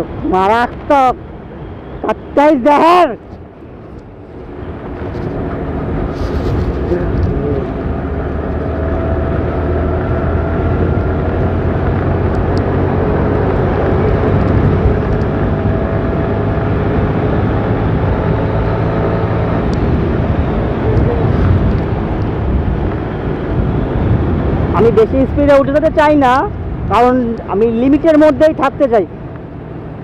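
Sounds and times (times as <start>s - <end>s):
wind rushing over microphone: 0.0s - 30.0s
motorcycle engine: 3.3s - 28.3s.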